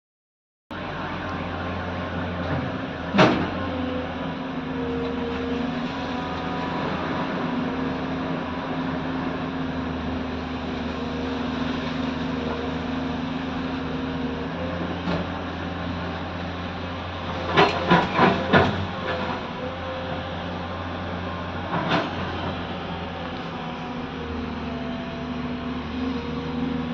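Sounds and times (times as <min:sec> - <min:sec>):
excavator diesel engine running: 0:00.7 - 0:26.9.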